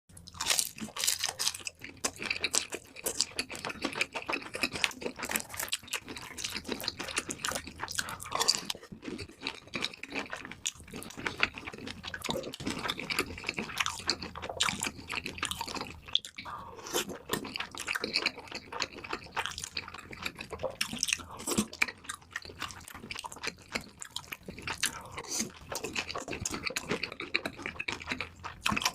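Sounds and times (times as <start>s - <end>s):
crunching and chewing fried food: 0.1s - 28.9s.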